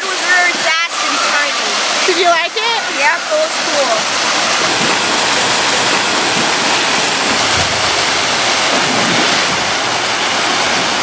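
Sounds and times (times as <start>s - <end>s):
water gushing into pool: 0.0s - 11.0s.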